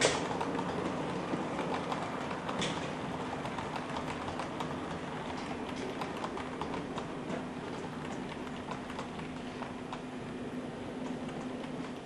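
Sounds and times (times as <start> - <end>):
model train wheels clicking: 0.0 - 12.0
steady low hum: 0.0 - 12.0.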